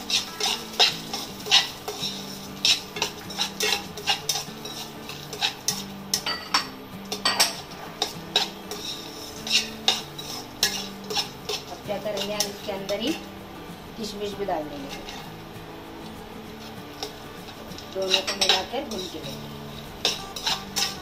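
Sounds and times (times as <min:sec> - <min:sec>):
spatula scraping a pan: 0:00.0 - 0:13.4, 0:14.7 - 0:15.5, 0:16.4 - 0:21.0.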